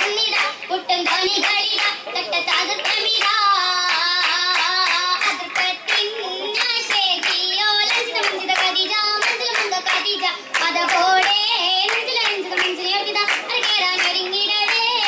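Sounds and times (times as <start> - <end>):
girls singing: 0.0 - 15.0
rhythmic hand claps: 0.0 - 15.0.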